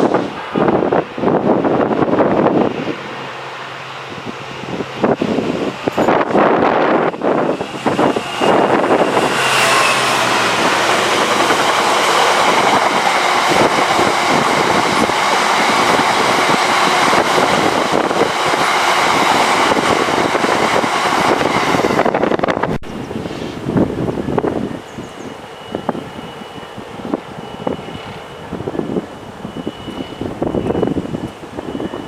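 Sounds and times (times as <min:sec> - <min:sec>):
train passing at speed: 0:00.0 - 0:32.0.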